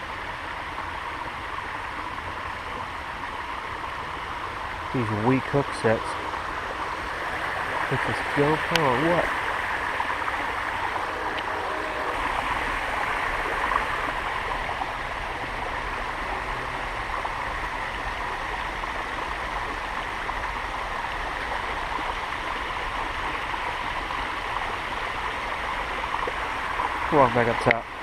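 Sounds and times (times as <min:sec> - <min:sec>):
creek water flowing: 0:00.0 - 0:28.0.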